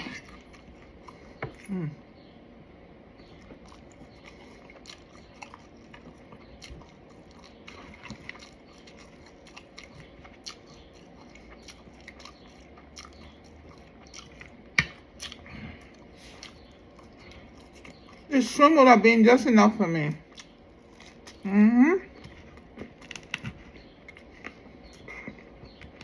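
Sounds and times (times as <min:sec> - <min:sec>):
person chewing fried food: 0:00.0 - 0:01.7, 0:03.2 - 0:18.3, 0:20.2 - 0:21.5, 0:22.1 - 0:26.0.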